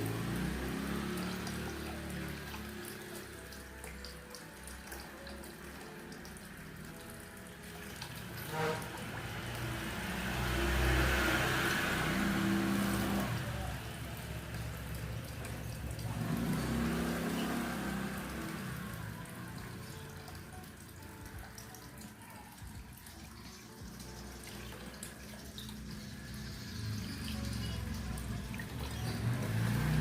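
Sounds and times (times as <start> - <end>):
water splashing and dripping: 0.0 - 30.0.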